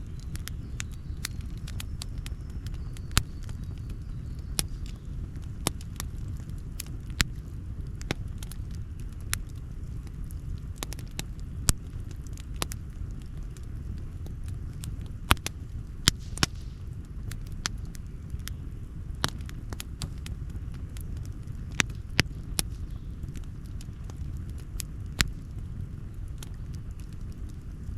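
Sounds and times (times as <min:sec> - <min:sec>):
campfire popping and snapping: 0:00.0 - 0:27.9
low fire rumble: 0:00.0 - 0:27.9.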